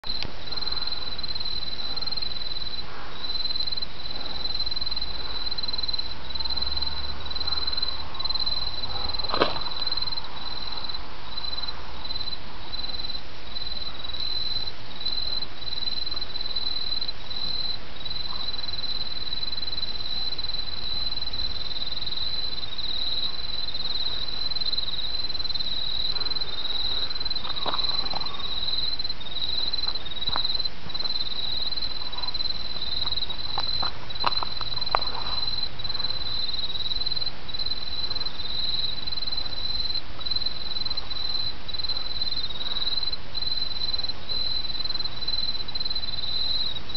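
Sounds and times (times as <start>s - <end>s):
insects trilling: 0.0s - 46.9s.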